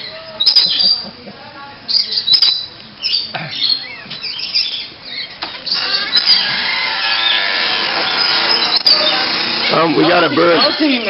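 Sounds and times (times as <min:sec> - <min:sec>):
bird squawking and chirping: 0:01.9 - 0:11.0.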